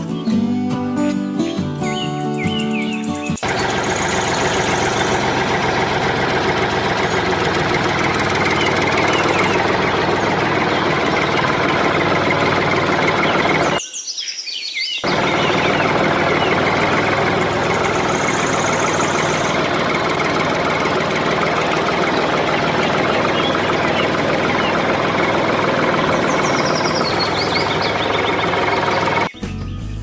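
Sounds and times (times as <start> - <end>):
birds chirping: 0.0 - 29.9
loud steady machine noise: 3.4 - 13.8, 15.0 - 29.3.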